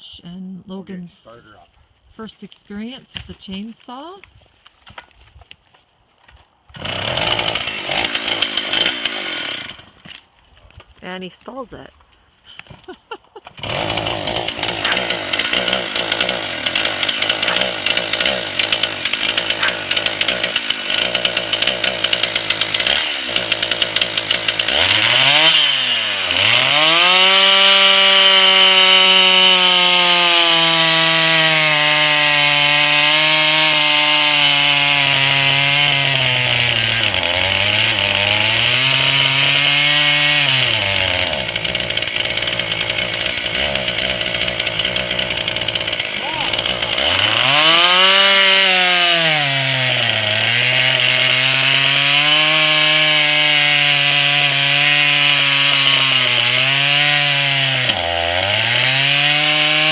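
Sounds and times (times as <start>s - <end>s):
chainsaw engine idling and revving: 6.7s - 10.0s, 13.6s - 59.9s.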